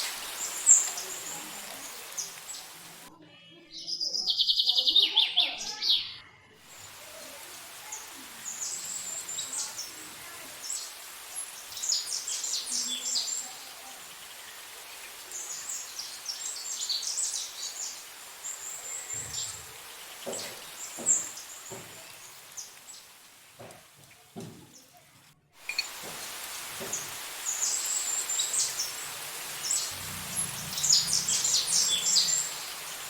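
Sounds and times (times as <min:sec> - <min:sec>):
steady background hiss: 0:00.0 - 0:03.1, 0:06.7 - 0:24.0, 0:25.6 - 0:33.0
small birds chirping: 0:00.0 - 0:33.0.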